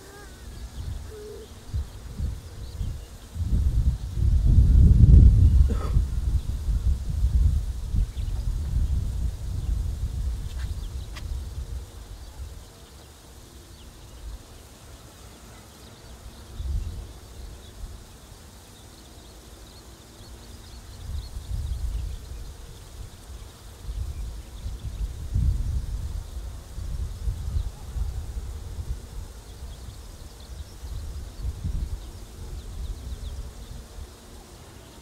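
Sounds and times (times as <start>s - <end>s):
wind rumbling on microphone: 0.0s - 12.8s, 16.2s - 18.4s, 20.2s - 35.0s.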